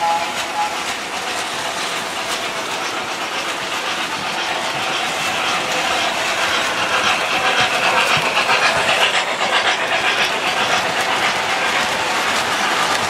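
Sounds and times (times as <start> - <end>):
model train wheels clattering: 0.0 - 13.0.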